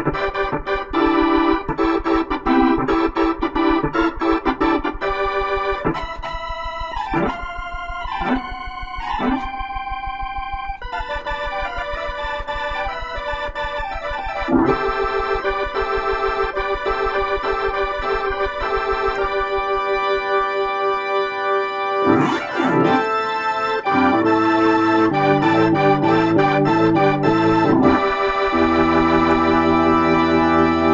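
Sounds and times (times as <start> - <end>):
organ chords through rotary speaker: 0.0 - 30.9.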